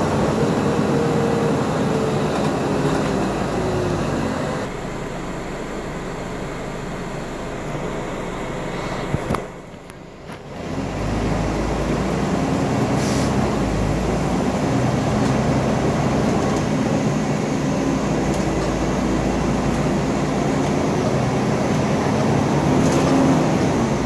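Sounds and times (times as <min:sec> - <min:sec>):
bus engine hum: 0:00.0 - 0:24.0.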